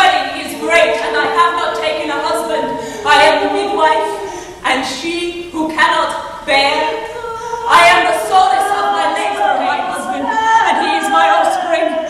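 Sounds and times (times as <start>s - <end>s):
voices singing held notes: 0.0s - 12.0s.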